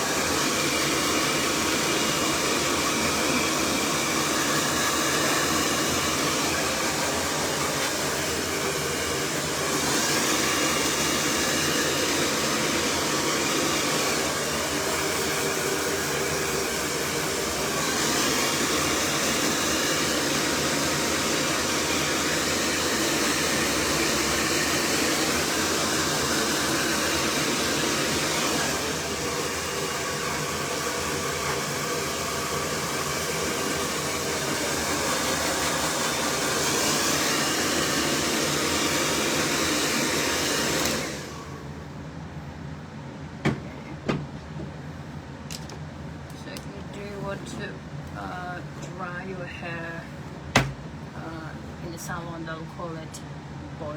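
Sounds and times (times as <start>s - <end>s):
hair dryer blowing: 0.0s - 42.1s, 43.4s - 52.9s.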